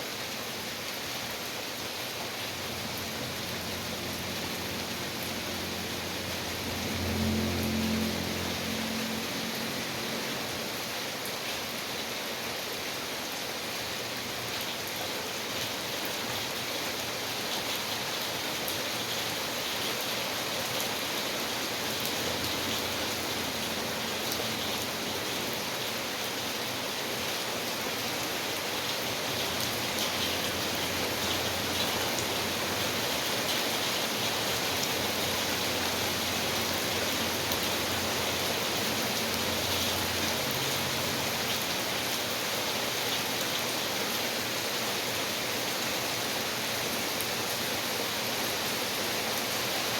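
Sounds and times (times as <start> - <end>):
rain drops pattering: 0.0 - 49.9.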